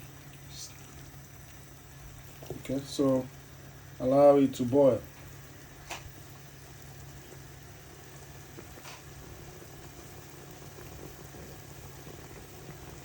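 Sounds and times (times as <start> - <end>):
soup bubbling in a pot: 0.0 - 13.0
steady low hum: 0.0 - 13.0.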